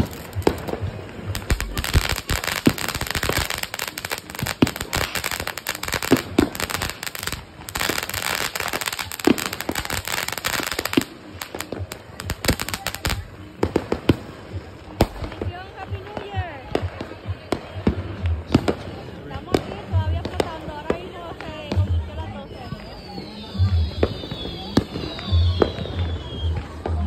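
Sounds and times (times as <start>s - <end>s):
firework crackling pops: 0.0s - 27.0s.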